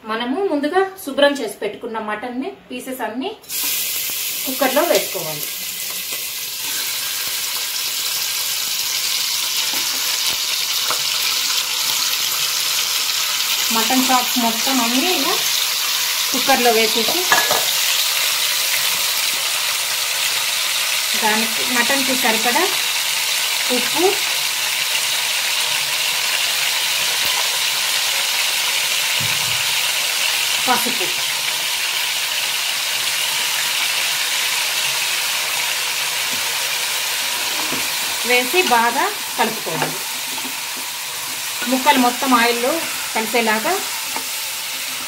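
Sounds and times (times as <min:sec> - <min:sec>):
meat sizzling in hot oil: 0:03.4 - 0:45.0.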